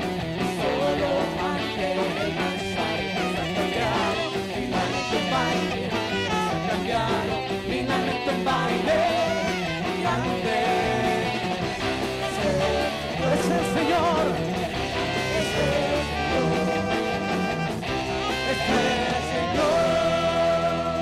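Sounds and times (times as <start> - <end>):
live band playing: 0.0 - 21.0
man singing: 0.0 - 21.0.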